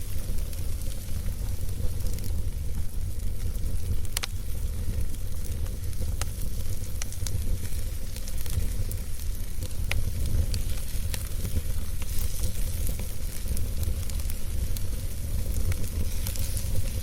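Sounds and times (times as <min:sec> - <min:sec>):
campfire crackling and popping: 0:00.0 - 0:17.0
low fire rumble and hiss: 0:00.0 - 0:17.0.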